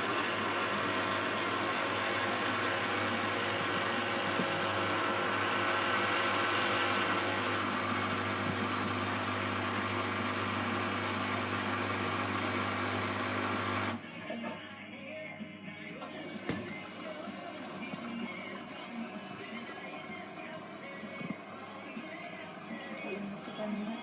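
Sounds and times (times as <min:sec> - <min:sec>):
washing machine spinning: 0:00.0 - 0:14.0, 0:16.0 - 0:24.0.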